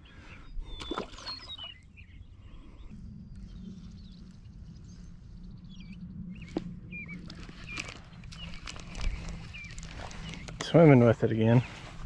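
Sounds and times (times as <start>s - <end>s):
small birds chirping: 0.0s - 12.0s
steady low hum: 1.8s - 12.0s.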